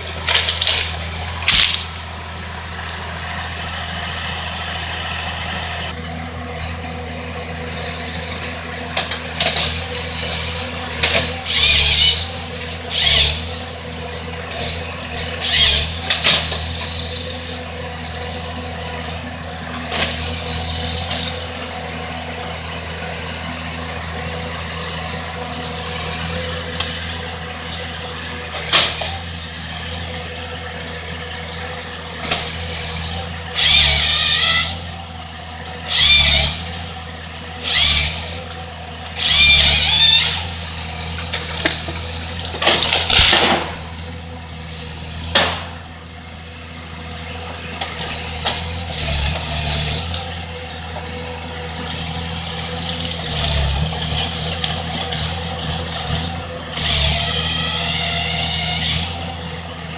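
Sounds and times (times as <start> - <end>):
high-pitched hydraulic whining: 0.0 - 35.2, 35.9 - 59.9
diesel engine running: 0.0 - 59.9.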